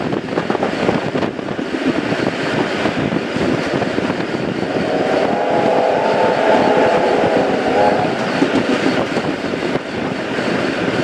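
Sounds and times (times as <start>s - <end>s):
train rumbling past: 0.0s - 11.0s
wind buffeting microphone: 0.0s - 11.0s.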